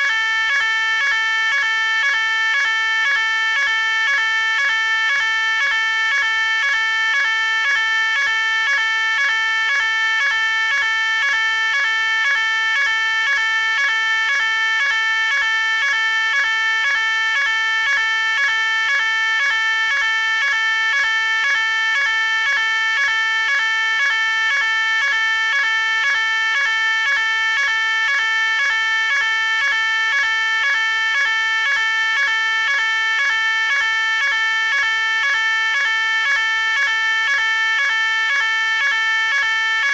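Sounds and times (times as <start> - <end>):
two-tone fire alarm: 0.0 - 39.9.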